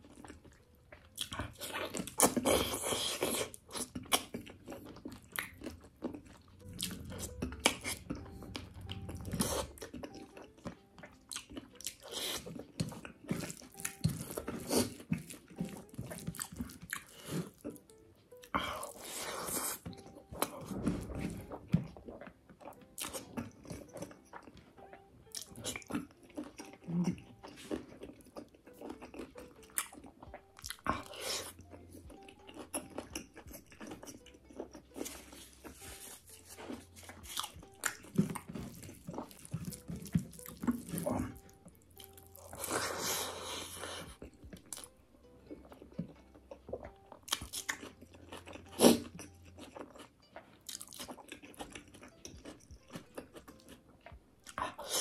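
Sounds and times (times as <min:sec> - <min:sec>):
wet chewing smacks and crunches: 0:00.0 - 0:55.0.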